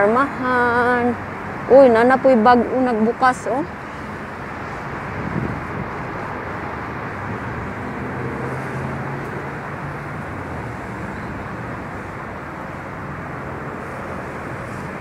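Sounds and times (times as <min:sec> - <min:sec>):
city street traffic roar: 0:00.0 - 0:15.0.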